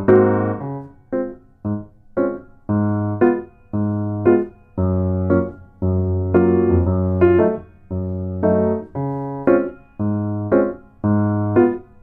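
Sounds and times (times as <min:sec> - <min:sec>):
keyboard chords: 0:00.0 - 0:12.0.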